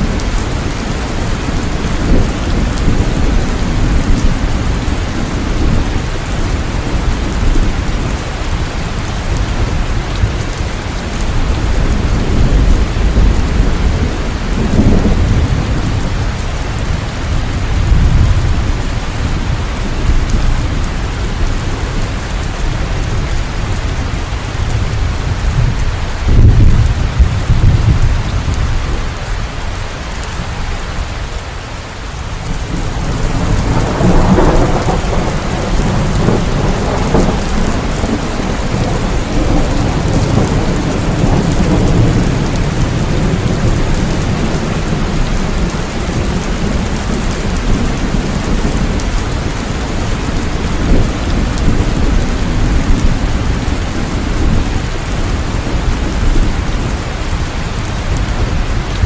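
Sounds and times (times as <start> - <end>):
thunder rumbling: 0.0 - 31.3, 32.2 - 59.0
steady rain: 0.0 - 59.0.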